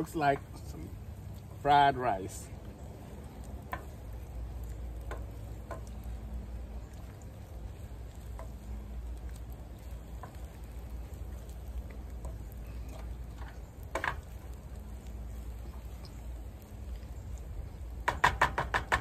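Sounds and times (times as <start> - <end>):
light sizzling: 0.0 - 19.0.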